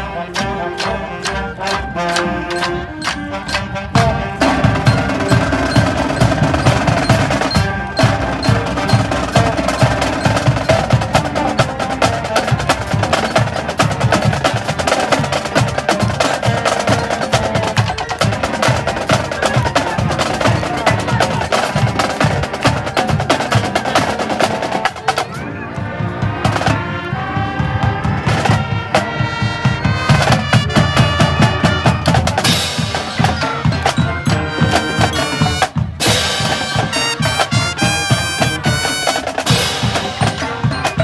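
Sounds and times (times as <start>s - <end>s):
marching band playing: 0.0s - 41.0s
rapid drum strokes: 0.0s - 41.0s.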